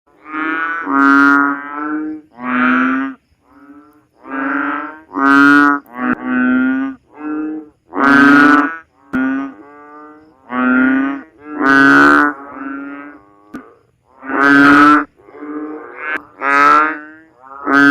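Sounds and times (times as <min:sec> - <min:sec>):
frogs calling: 0:00.1 - 0:17.9.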